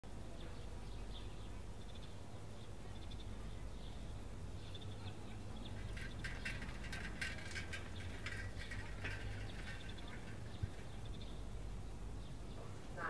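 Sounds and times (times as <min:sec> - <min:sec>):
steady low hum: 0:00.1 - 0:13.0
small birds chirping: 0:00.2 - 0:13.0.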